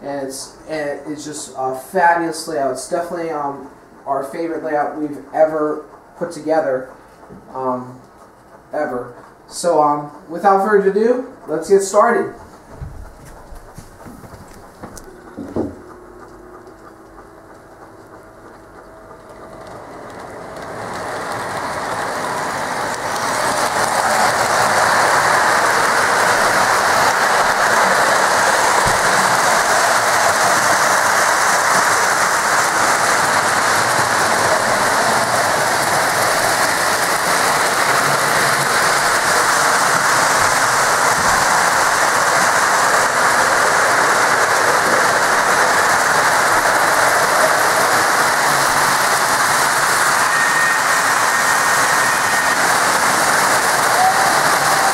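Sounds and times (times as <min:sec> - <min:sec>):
model train wheels rumbling: 0:00.0 - 0:54.9.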